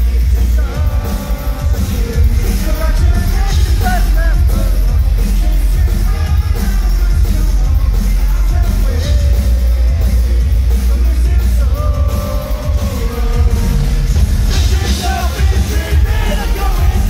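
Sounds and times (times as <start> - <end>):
electronic rock band playing: 0.0 - 17.0.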